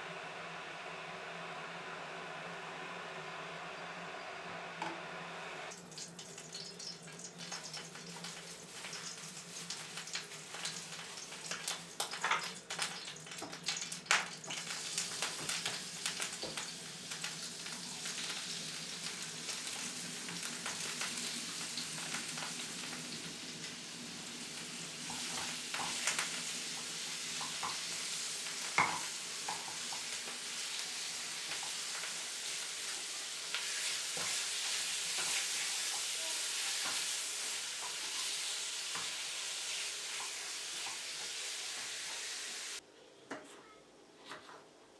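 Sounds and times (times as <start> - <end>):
food sizzling in a frying pan: 5.7 - 42.8.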